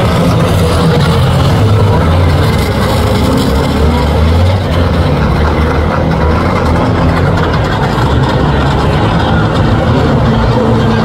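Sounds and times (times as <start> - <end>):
racing car engines running: 0.0 - 11.0.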